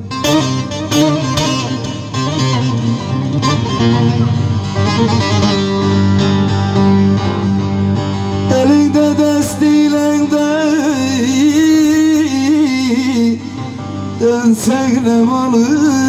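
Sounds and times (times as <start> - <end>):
plucked lute melody: 0.0 - 16.0.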